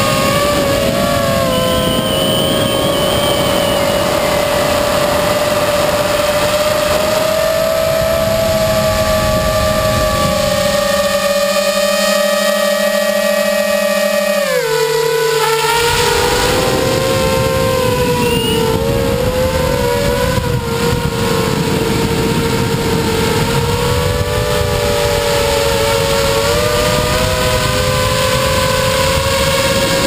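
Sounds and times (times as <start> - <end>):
drone motors whining: 0.0 - 30.0
wind rush on microphone: 0.0 - 30.0.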